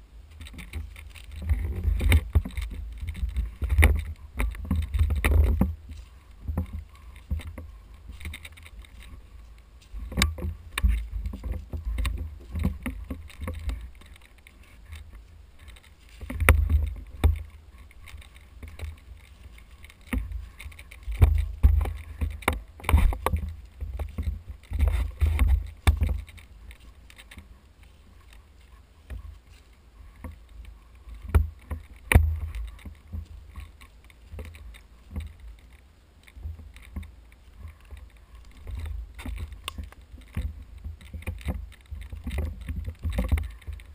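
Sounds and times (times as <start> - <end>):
footsteps through dry leaves: 0.0 - 43.9
twigs snapping: 0.3 - 43.9.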